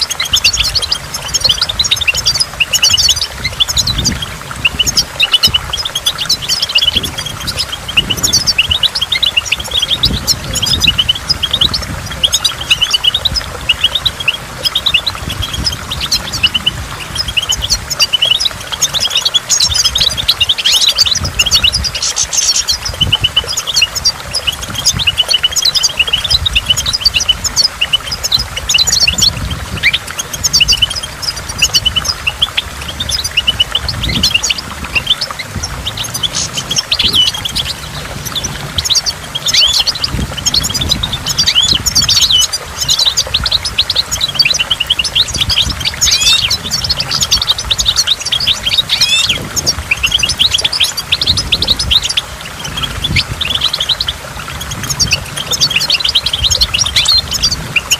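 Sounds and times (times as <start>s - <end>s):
bird twittering song: 0.0s - 57.9s
waterfall rushing: 0.0s - 57.9s.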